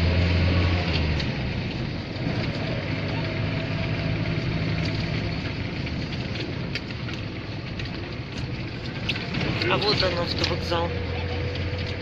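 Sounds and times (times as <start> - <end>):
van engine and road hum: 0.0 - 12.0.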